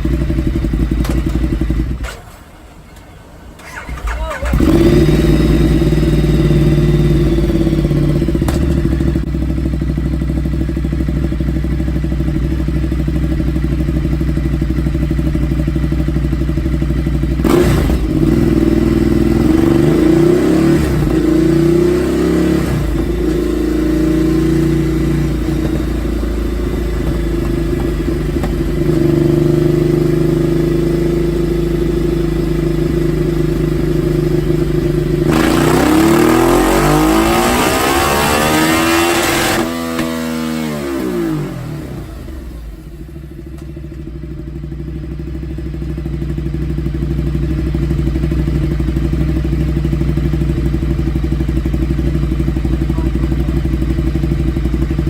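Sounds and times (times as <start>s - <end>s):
motorcycle engine idling loud: 0.0s - 2.0s, 4.1s - 39.6s, 40.6s - 55.0s
motorcycle throttle blips: 3.0s - 55.0s.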